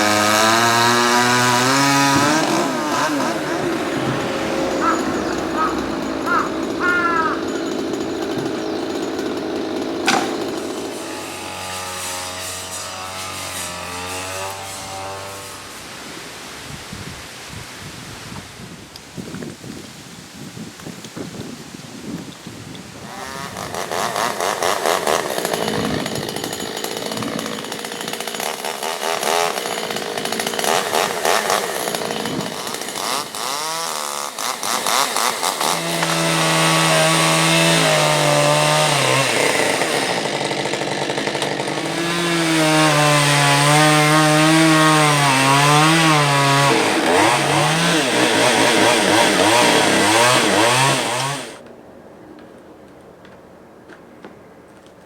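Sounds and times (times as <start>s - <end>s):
chainsaw cutting wood: 0.0s - 16.3s, 22.0s - 51.7s.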